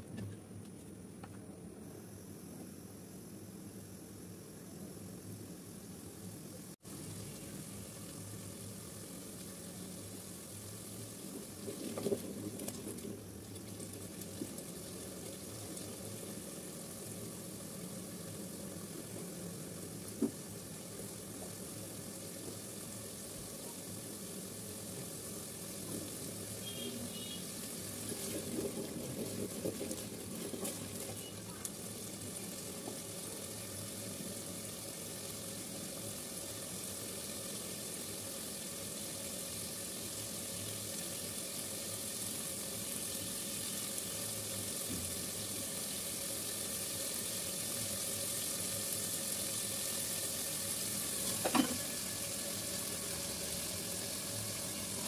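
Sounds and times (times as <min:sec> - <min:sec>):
hot oil sizzling: 0:01.8 - 0:55.0.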